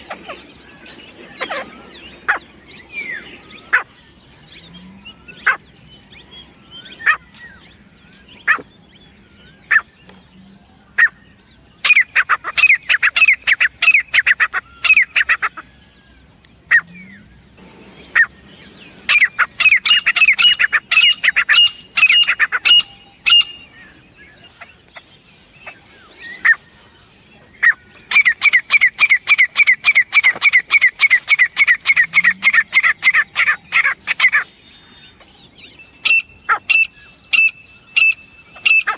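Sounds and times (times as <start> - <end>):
francolin calling: 0.0 - 38.9.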